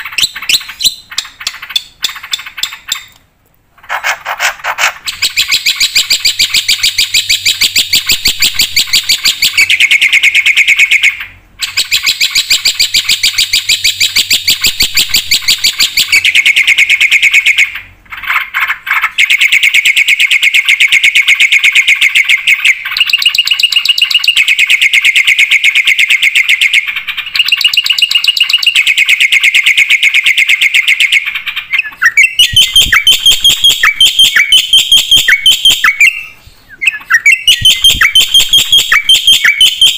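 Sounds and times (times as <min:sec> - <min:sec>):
bird singing rapid chattering: 0:00.0 - 0:03.2, 0:03.8 - 0:39.9.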